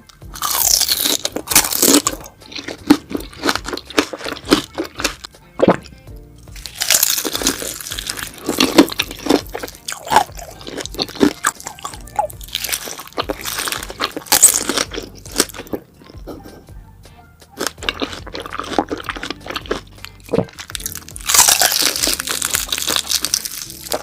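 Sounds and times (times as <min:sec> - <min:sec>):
soft background music: 0:00.0 - 0:24.0
wet crunchy chewing: 0:00.3 - 0:16.6, 0:17.6 - 0:24.0.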